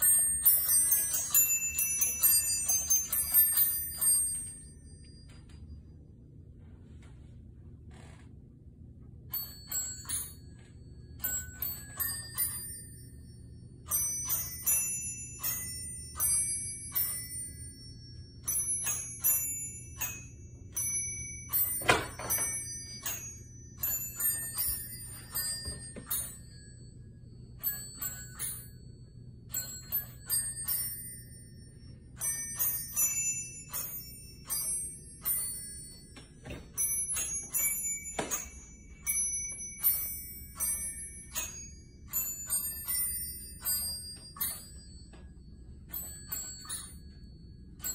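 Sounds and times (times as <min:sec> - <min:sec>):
glockenspiel melody: 0:00.0 - 0:06.5, 0:09.2 - 0:47.9.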